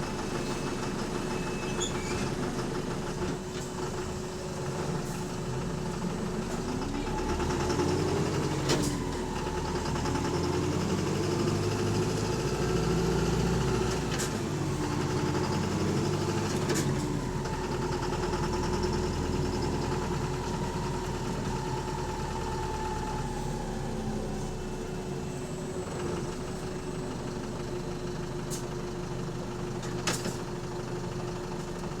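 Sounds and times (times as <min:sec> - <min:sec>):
bus engine humming and whining: 0:00.0 - 0:32.0.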